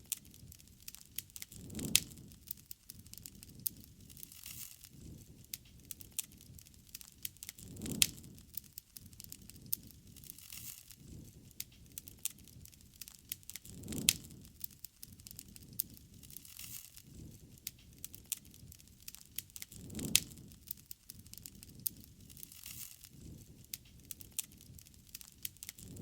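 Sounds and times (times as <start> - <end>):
campfire crackling and popping: 0.0 - 26.0
rushing swell of flame: 0.0 - 26.0.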